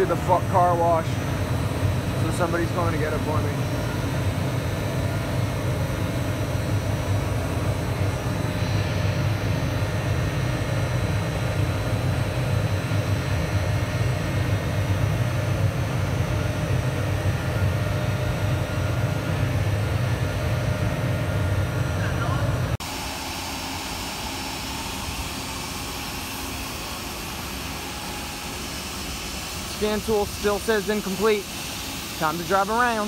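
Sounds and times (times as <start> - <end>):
car wash equipment roaring: 0.0 - 33.0.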